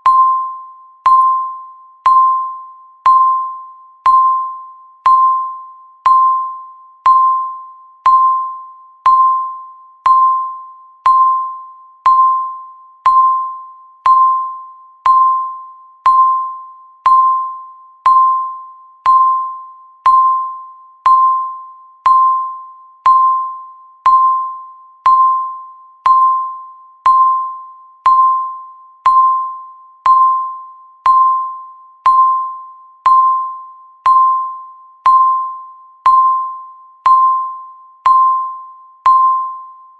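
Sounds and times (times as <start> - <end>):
electronic timer beep: 0.0 - 39.9.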